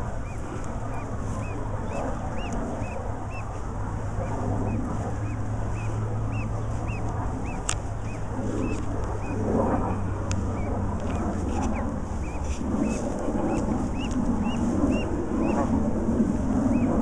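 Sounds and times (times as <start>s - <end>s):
goslings peeping: 0.0s - 17.0s
steady low hum: 0.0s - 17.0s.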